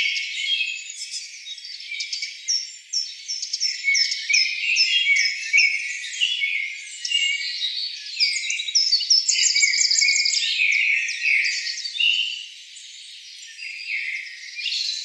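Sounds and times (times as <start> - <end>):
forest birds singing: 0.0 - 15.0.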